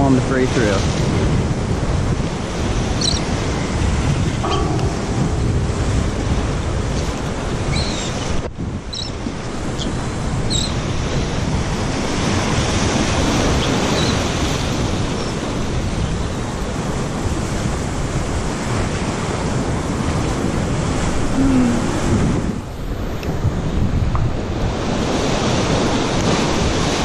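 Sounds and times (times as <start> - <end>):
surf washing against a jetty: 0.0 - 27.0
wind buffeting microphone: 0.0 - 27.0.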